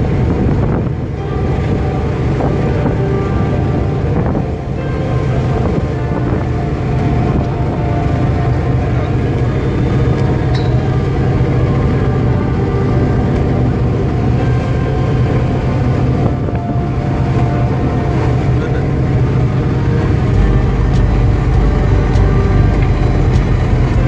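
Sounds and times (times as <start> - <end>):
boat engine and deck machinery drone: 0.0 - 24.0.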